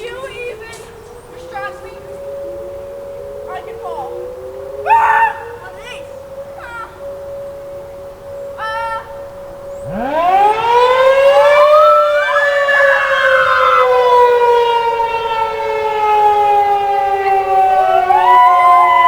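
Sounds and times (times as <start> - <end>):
second rising siren tone: 0.0 - 19.0
warning siren wailing: 0.0 - 19.0.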